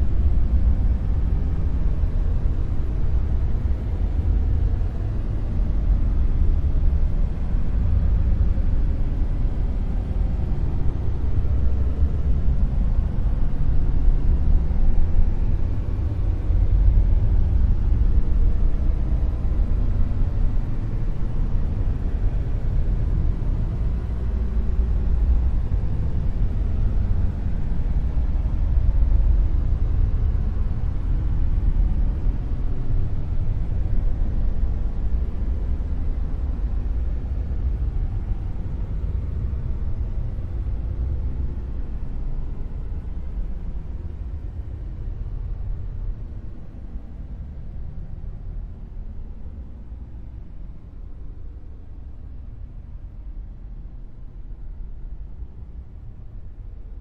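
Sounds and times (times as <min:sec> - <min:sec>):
deep rumbling dark noise: 0:00.0 - 0:57.0.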